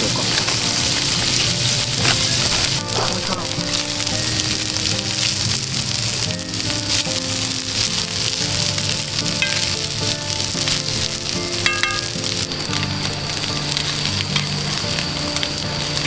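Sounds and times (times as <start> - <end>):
food sizzling over campfire: 0.0 - 16.0.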